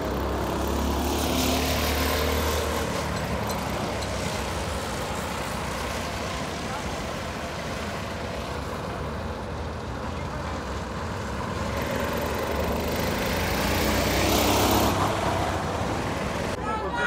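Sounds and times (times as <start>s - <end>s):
go-kart engines droning: 0.0s - 17.0s.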